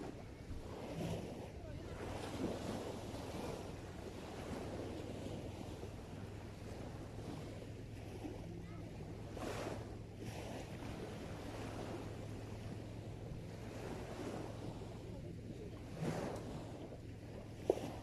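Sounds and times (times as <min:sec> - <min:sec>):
sea waves washing ashore: 0:00.0 - 0:18.0
wind on microphone: 0:00.0 - 0:18.0.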